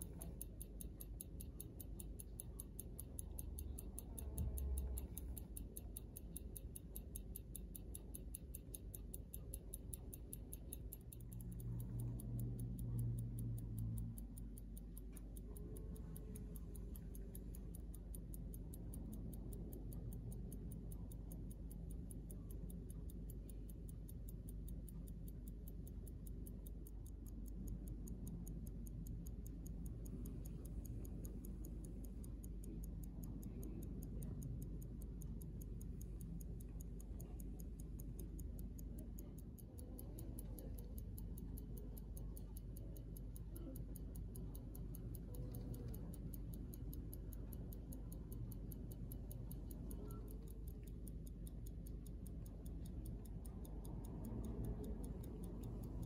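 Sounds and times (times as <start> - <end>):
low background rumble: 0.0 - 56.0
pocket watch ticking: 0.0 - 56.0.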